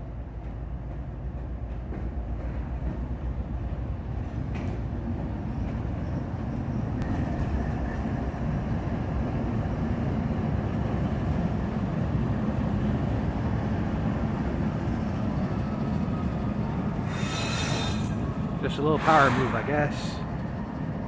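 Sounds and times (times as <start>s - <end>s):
freight train rumbling over bridge: 0.0s - 21.0s.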